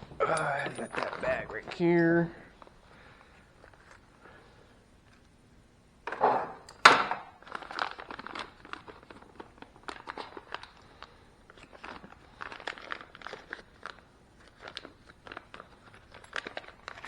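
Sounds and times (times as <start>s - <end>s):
plastic bag rustling: 0.0s - 4.7s, 7.3s - 17.0s
plastic bag crinkling: 0.0s - 5.2s, 7.3s - 17.0s.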